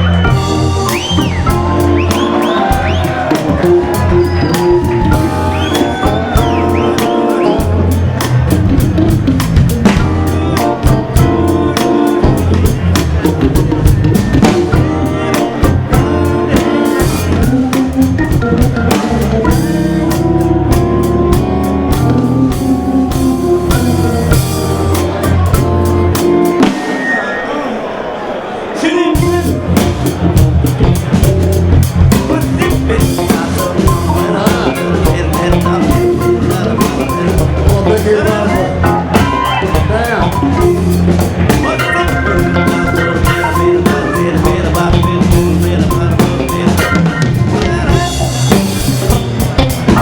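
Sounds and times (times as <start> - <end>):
bass line: 0.0 - 27.0, 29.2 - 50.0
drum kit: 0.0 - 27.4, 29.1 - 50.0
organ playing chords: 0.0 - 50.0.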